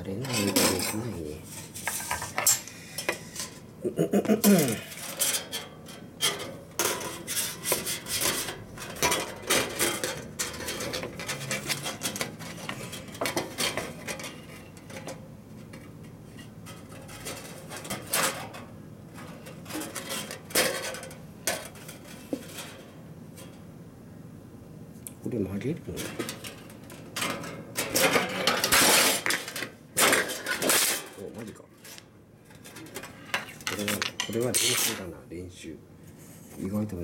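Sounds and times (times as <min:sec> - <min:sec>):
metal plates clinking and scraping: 0:00.1 - 0:03.6, 0:04.5 - 0:23.5, 0:26.0 - 0:31.3, 0:32.6 - 0:35.0.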